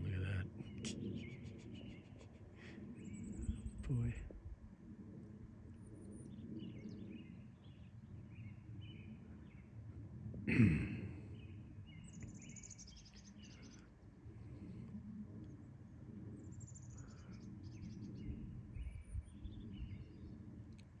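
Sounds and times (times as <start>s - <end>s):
songbird singing: 0.0s - 4.5s, 5.7s - 9.9s, 10.5s - 21.0s
faint low rumble: 0.0s - 21.0s.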